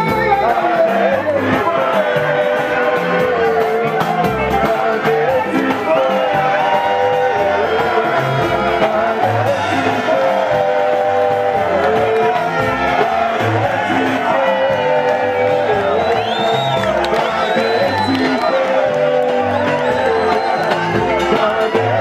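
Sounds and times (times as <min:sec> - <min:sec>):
loud music with pulsing bass: 0:00.0 - 0:22.0.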